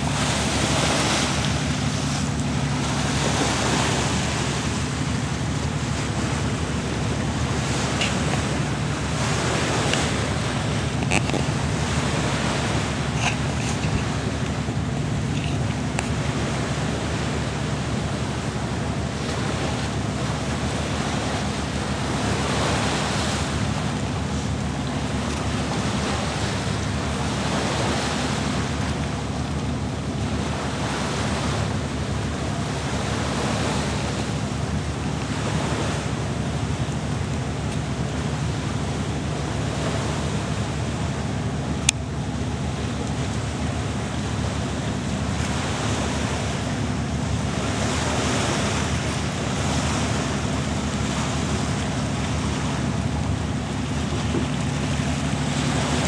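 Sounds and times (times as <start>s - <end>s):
water rushing along hull: 0.0s - 56.0s.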